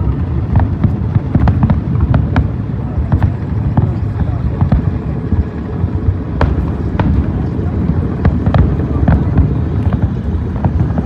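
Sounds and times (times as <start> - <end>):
fireworks booming: 0.0 - 11.0
fireworks popping and crackling: 0.0 - 11.0.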